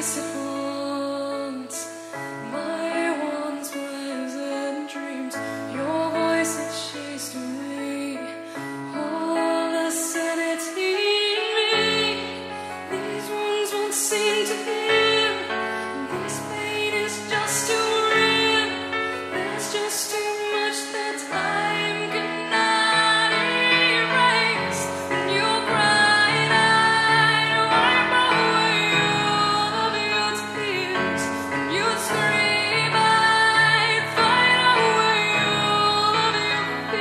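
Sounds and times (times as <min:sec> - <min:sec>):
woman singing with instruments: 0:00.0 - 0:37.0.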